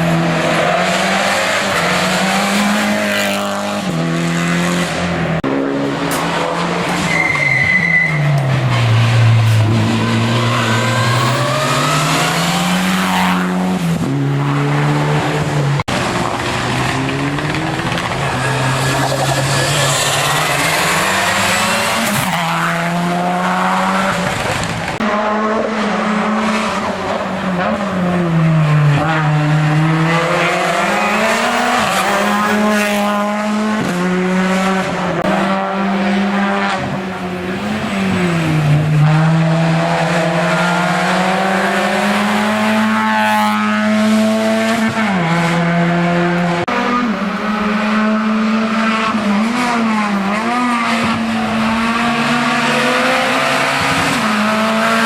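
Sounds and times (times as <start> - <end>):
race car engine under hard load: 0.0 - 55.0.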